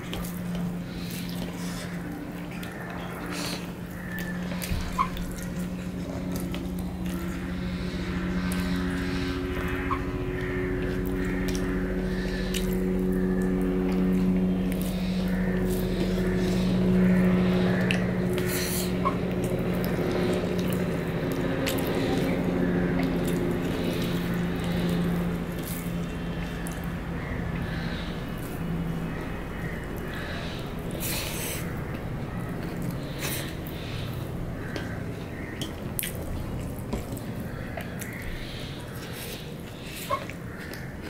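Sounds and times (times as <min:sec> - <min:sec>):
man chewing with mouth smacks: 0:00.0 - 0:07.7, 0:08.3 - 0:27.8, 0:30.9 - 0:41.0
steady low hum: 0:00.0 - 0:41.0.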